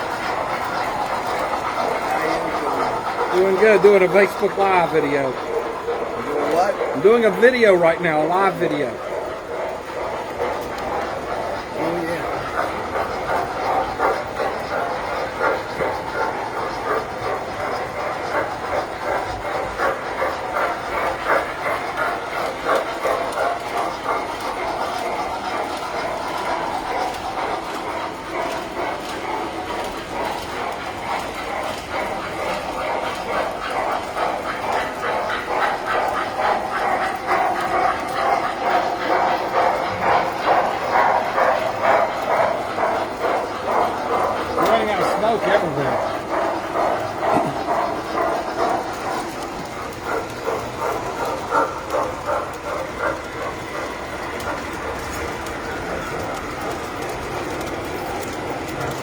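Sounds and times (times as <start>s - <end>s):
toy train wheels clattering: 0.0s - 59.0s.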